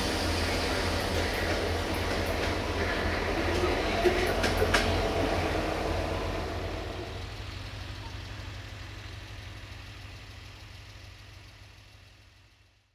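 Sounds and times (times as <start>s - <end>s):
diesel locomotive engine rumbling: 0.0s - 12.9s.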